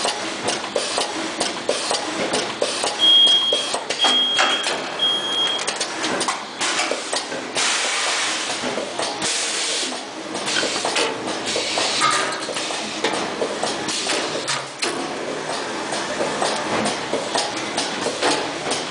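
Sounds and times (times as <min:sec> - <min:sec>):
rapid machine clatter: 0:00.0 - 0:03.0, 0:05.8 - 0:18.9.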